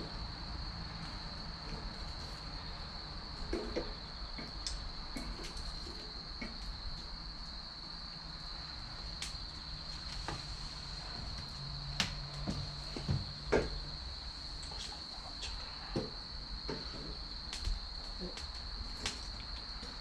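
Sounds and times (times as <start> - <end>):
firewood crackling and popping: 3.4 - 20.0.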